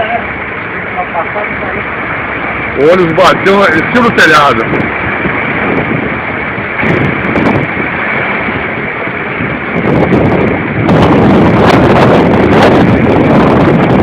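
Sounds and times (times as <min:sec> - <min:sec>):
storm wind gusting over microphone: 0:00.0 - 0:14.0.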